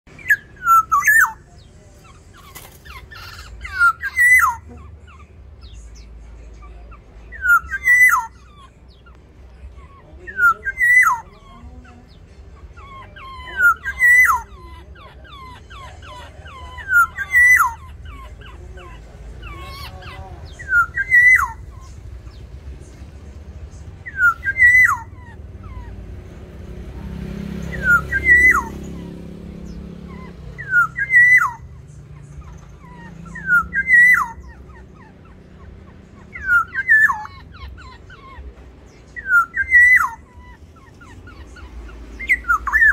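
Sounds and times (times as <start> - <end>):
oriole calling: 0.1 - 42.9.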